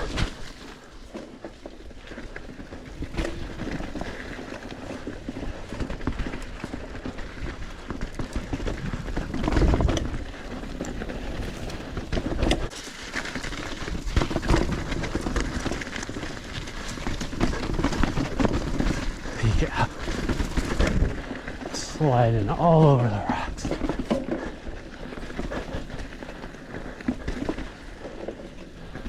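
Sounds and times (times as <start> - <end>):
bike rattling and knocking: 0.0 - 21.8, 23.6 - 29.0
bike tyres crunching on rocks: 0.0 - 29.0.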